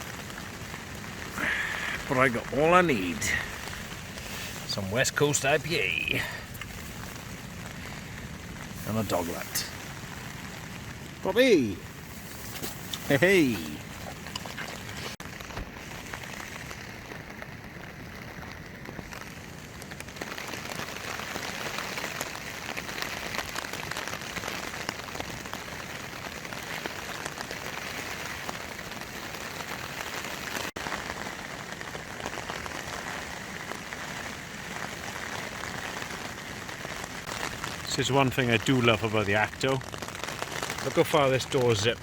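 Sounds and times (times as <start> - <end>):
heavy rain on tent flysheet: 0.0 - 42.0.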